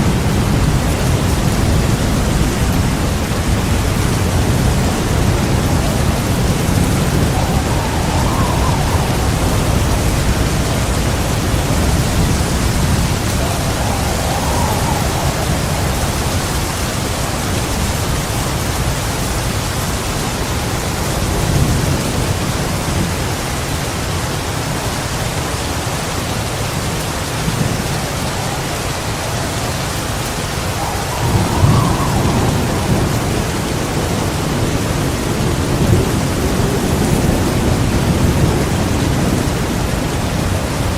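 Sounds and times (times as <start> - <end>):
thunderclap: 0.0 - 23.3, 26.2 - 40.9
rolling thunder: 0.0 - 24.1, 25.0 - 40.9
heavy rain pouring: 0.0 - 40.9.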